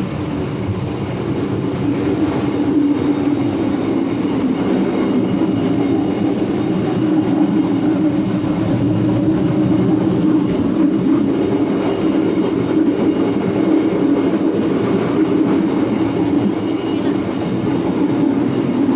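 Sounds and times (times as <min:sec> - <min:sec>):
train coach rumbling: 0:00.0 - 0:18.9
train wheels on rails: 0:00.0 - 0:18.9.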